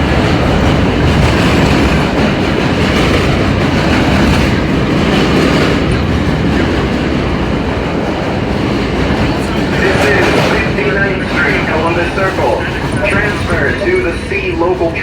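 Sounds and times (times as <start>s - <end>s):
subway wheels rumbling on rails: 0.0s - 15.0s.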